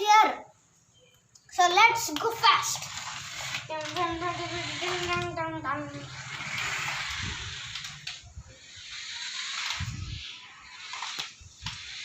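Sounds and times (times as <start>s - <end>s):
toy car motor whirring: 1.6s - 12.0s.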